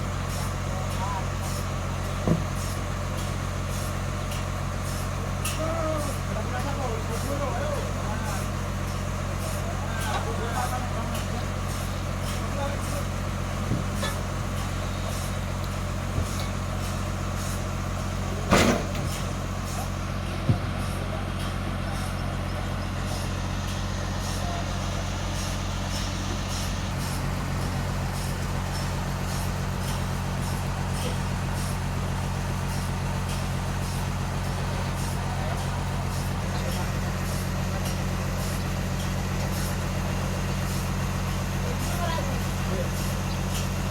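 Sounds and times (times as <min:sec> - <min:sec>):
sawmill engine humming: 0:00.0 - 0:43.9.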